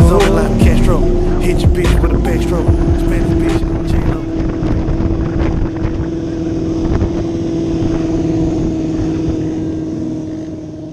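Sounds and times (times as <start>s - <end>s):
small motorcycle engine running: 0.0s - 10.9s.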